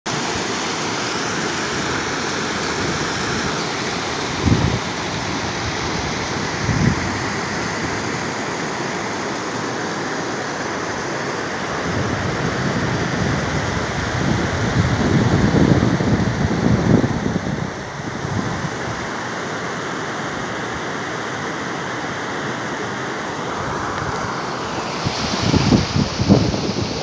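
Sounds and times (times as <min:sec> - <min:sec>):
floodwater rushing: 0:00.1 - 0:27.0.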